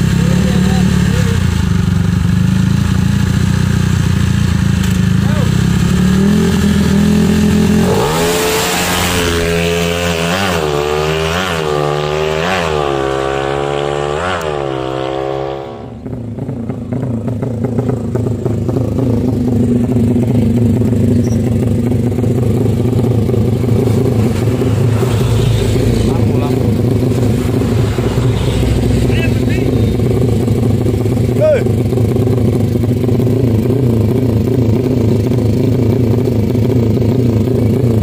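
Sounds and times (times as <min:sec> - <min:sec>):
engine running steadily: 0:00.0 - 0:12.2, 0:12.8 - 0:38.0
motorcycle engine revving: 0:00.0 - 0:38.0.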